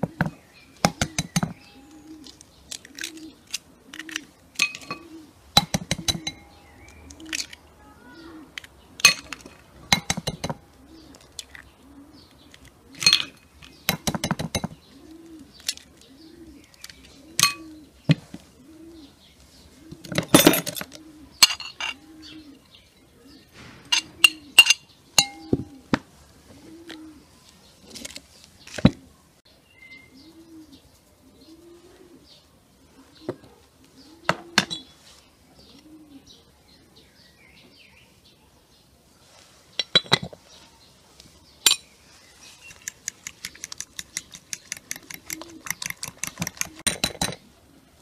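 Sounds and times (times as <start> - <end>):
pigeon cooing: 0.0 - 28.1, 30.0 - 37.0, 43.2 - 48.0.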